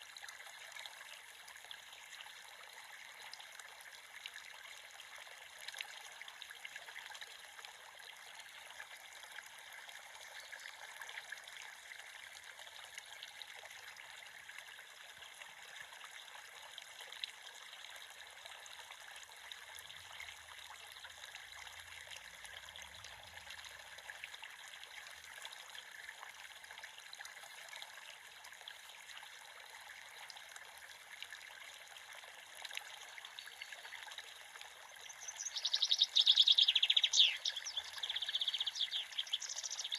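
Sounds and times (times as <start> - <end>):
creek water trickling: 0.0 - 39.9.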